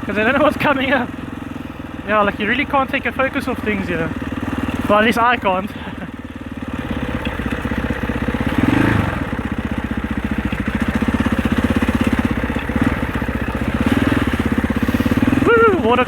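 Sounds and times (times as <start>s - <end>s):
dirt bike engine pulsing: 0.0s - 16.0s.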